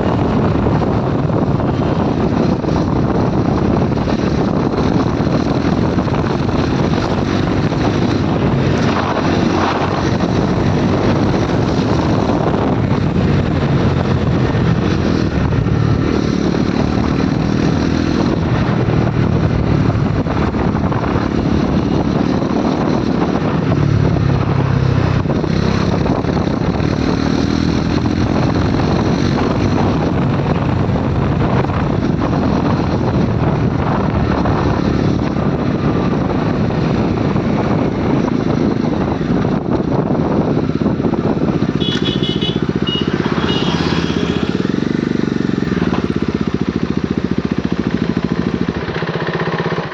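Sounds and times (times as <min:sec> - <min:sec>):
motorcycle engine running: 0:00.0 - 0:49.9
wind rushing over microphone: 0:00.0 - 0:49.9.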